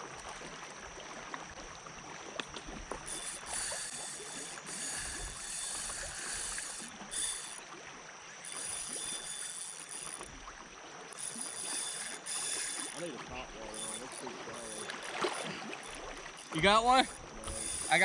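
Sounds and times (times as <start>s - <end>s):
water lapping and splashing: 0.0s - 18.0s
high buzz: 2.6s - 18.0s.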